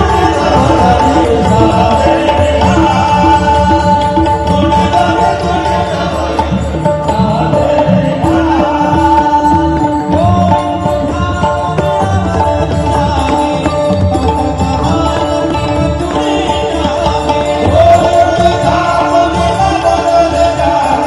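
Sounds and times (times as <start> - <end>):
jingling hand percussion: 0.0 - 21.0
man singing: 0.0 - 21.0.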